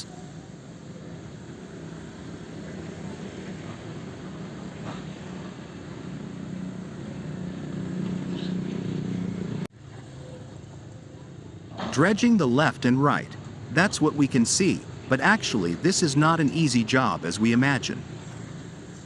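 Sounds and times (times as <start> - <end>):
excavator diesel engine running: 1.7 - 19.0.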